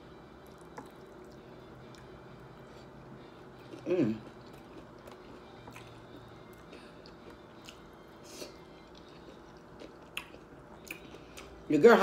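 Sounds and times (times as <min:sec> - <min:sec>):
chewing food: 0:00.4 - 0:12.0.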